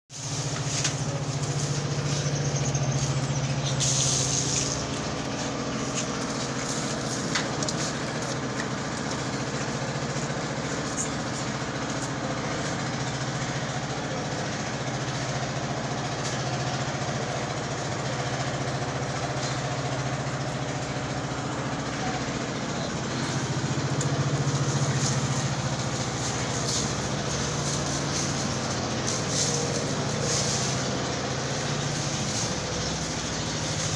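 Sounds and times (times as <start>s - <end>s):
steady engine-like hum: 0.1s - 33.9s.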